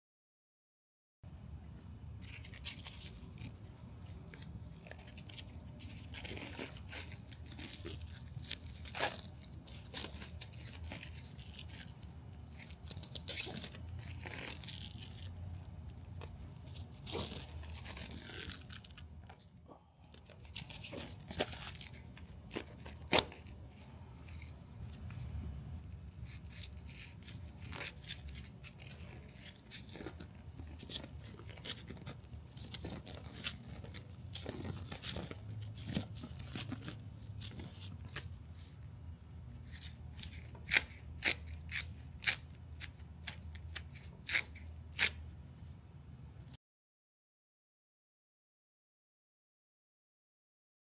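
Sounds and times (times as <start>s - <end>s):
sticky tape peeling and crinkling: 2.2s - 38.9s, 39.5s - 45.8s.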